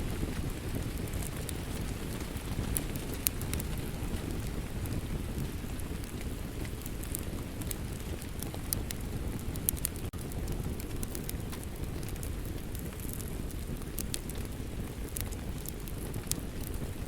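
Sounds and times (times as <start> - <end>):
fireplace crackling: 0.0 - 17.0
steady rain: 0.0 - 17.0.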